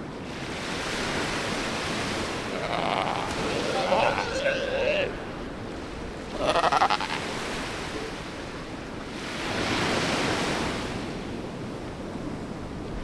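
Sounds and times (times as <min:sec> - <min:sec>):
ocean waves on a beach: 0:00.0 - 0:13.0.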